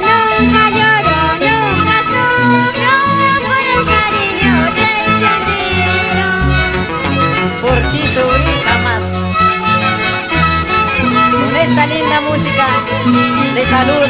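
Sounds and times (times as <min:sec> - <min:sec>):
bass line: 0:00.0 - 0:14.0
plucked strings: 0:00.0 - 0:14.0
violin melody: 0:00.0 - 0:14.0.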